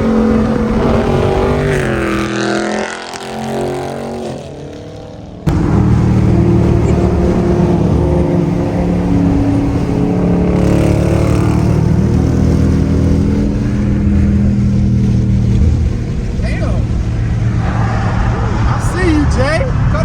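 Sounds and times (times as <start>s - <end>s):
car engine revving loud: 0.0s - 20.0s.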